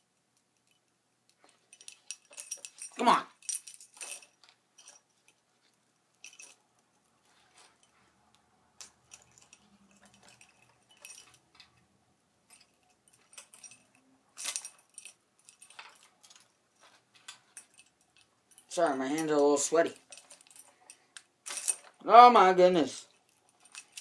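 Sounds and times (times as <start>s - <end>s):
metal lure clinking and jangling: 0.0s - 7.9s, 8.8s - 11.8s, 12.4s - 22.0s, 23.0s - 24.0s.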